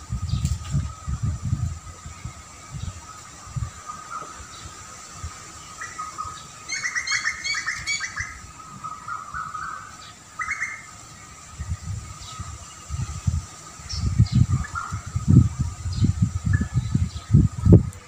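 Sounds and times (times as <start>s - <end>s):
songbird chattering: 1.9s - 17.6s.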